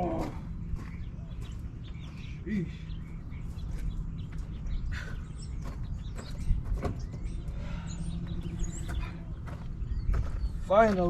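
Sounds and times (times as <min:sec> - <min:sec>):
low steady rumble: 0:00.0 - 0:10.7
faint bird chirps: 0:00.8 - 0:10.7.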